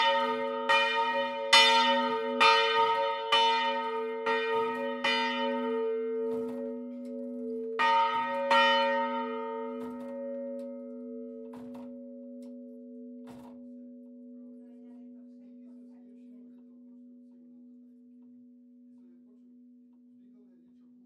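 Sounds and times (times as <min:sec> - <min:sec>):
swinging church bells ringing: 0:00.0 - 0:18.5.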